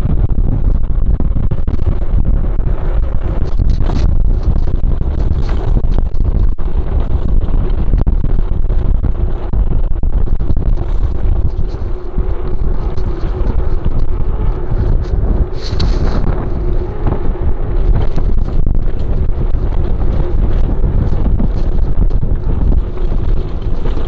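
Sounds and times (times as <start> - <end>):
wind buffeting microphone: 0.0 - 24.0
bike clicks and rattles: 0.1 - 24.0.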